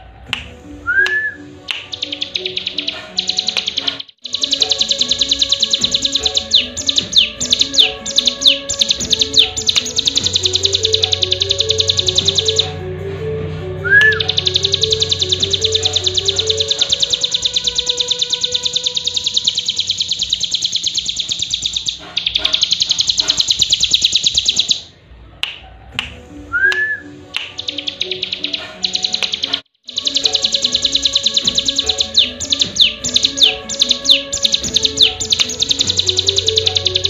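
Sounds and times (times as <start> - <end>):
slow low background music: 0.0 - 22.6, 24.4 - 37.0
songbird trilling: 1.8 - 12.8, 13.9 - 24.9, 27.4 - 37.0.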